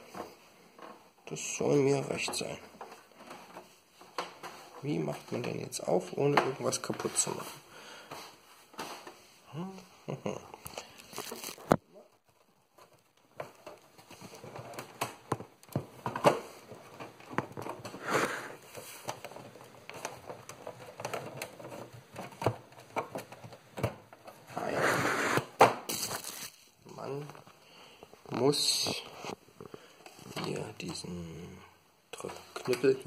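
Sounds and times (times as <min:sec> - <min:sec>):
rustling: 0:00.0 - 0:31.1.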